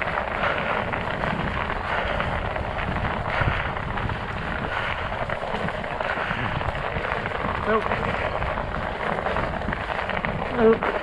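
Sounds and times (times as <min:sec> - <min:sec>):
bike tyres crackling over ice: 0:00.0 - 0:11.0
wind buffeting microphone: 0:00.0 - 0:11.0.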